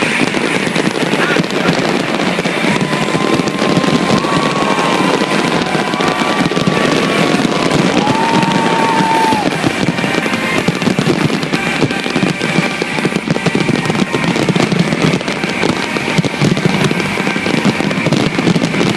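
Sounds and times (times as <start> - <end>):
fireworks bangs and crackles: 0.0 - 18.9
fireworks whistling: 0.0 - 18.9.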